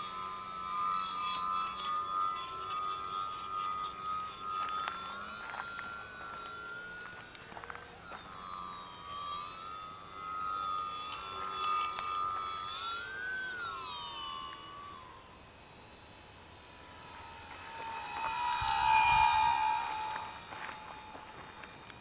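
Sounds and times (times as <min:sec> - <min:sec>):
rc plane electric motor whining: 0:00.0 - 0:22.0.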